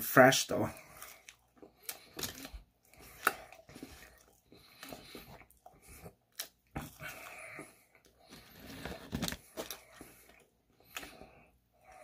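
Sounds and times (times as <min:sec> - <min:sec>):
person chewing fries: 0:00.7 - 0:12.0.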